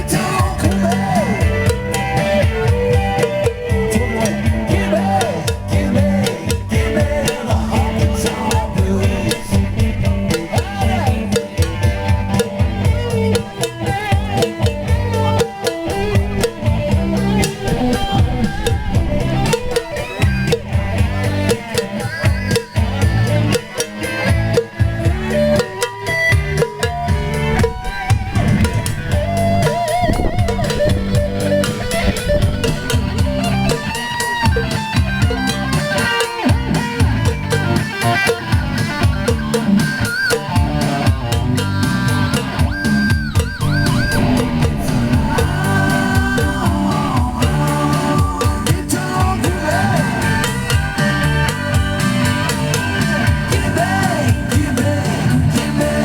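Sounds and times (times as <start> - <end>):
rock music with guitar and drums: 0.0 - 56.0.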